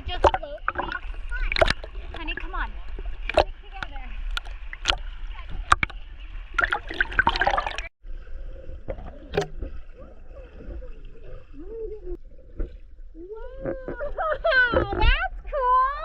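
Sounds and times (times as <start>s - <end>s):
water splashing and gurgling: 0.0s - 16.0s.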